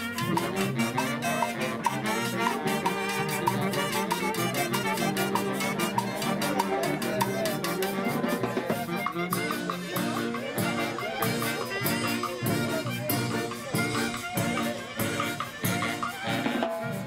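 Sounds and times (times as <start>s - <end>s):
drum beat: 0.0s - 17.0s
live band playing dance tune: 0.0s - 17.0s.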